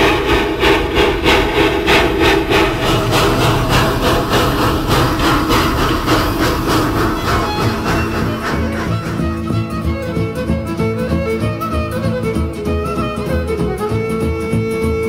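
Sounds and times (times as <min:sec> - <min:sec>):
rush of steam and running noise: 0:00.0 - 0:12.3
steam locomotive exhaust chuffing: 0:00.0 - 0:15.0.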